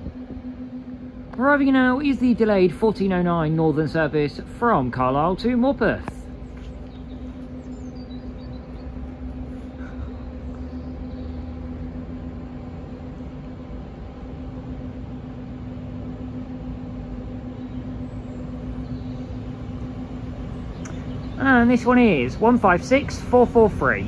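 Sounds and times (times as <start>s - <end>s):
diesel train engine drone: 0.0s - 24.0s.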